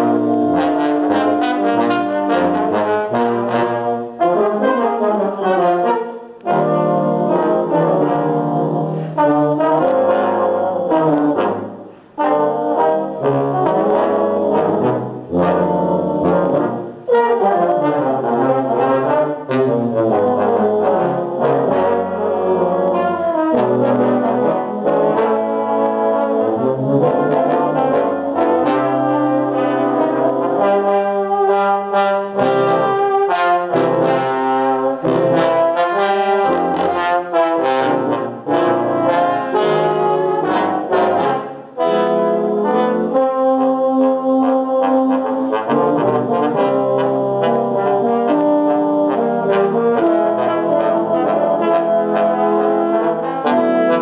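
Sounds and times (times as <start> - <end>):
low brass ensemble playing: 0.0 - 54.0.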